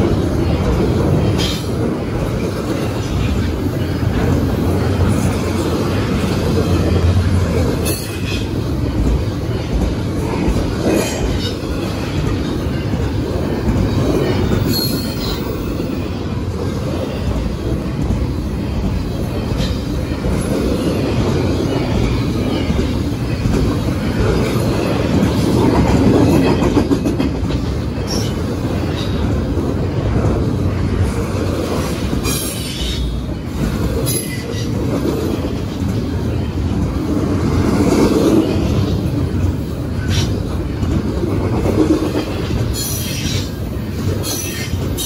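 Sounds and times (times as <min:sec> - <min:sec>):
train wheels rumbling on rails: 0:00.0 - 0:45.0
wheels clacking over rail joints: 0:00.0 - 0:45.0.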